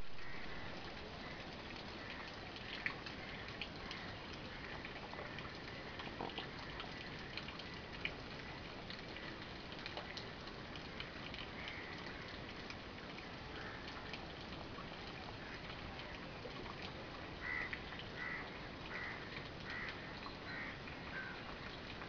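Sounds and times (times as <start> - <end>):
water plops and ticks: 0.2 - 22.0.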